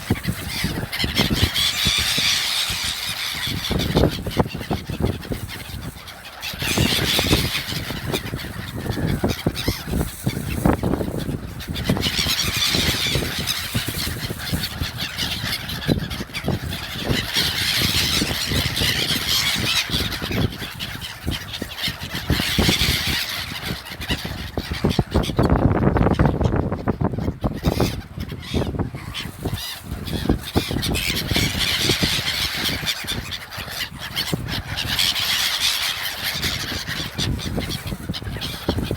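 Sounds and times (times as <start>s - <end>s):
flock of birds calling: 0.0s - 38.9s.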